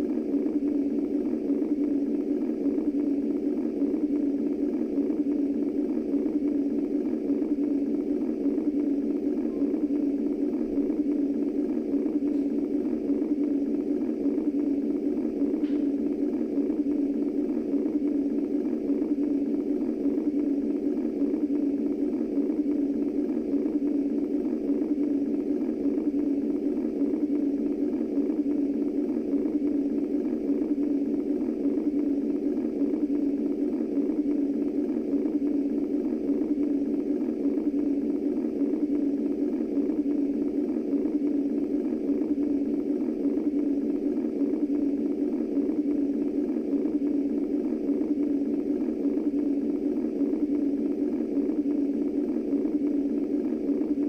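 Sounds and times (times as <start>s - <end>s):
low muffled white noise: 0.0s - 54.0s.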